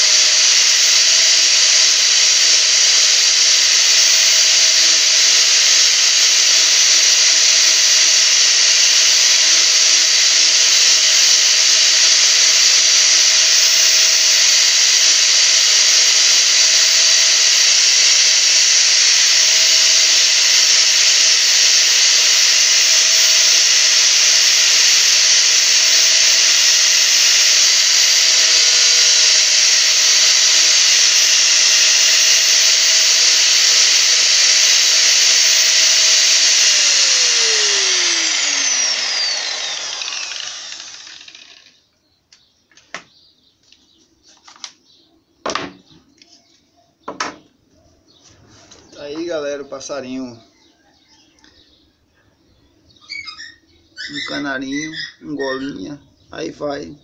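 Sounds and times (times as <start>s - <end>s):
angle grinder grinding wood: 0.0s - 41.8s, 48.2s - 50.4s, 53.0s - 56.7s.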